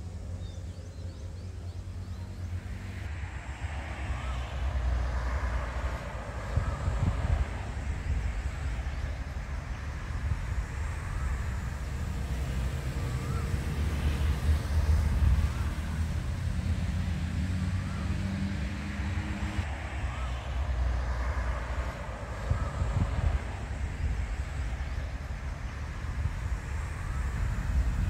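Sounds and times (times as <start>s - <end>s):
low engine rumble: 0.0s - 28.0s
steady motor tone: 4.0s - 28.0s.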